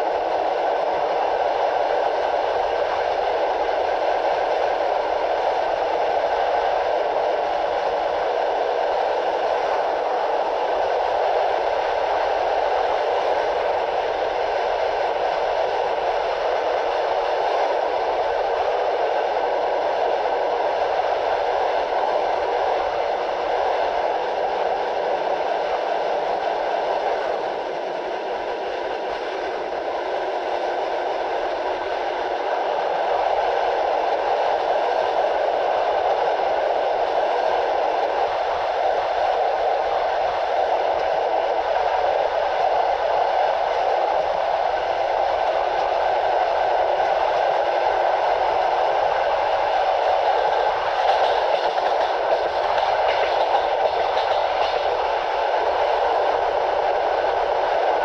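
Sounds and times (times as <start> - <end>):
train coach rushing noise: 0.0 - 58.0.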